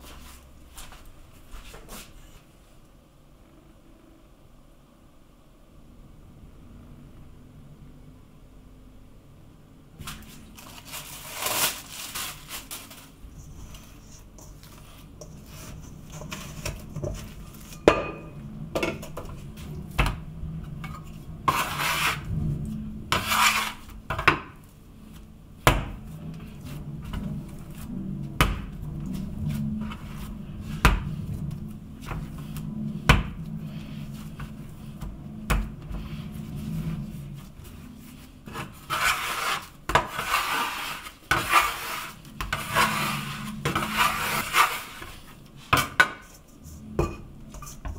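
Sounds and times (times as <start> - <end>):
rustling and scraping: 0.0 - 2.7, 10.0 - 47.9.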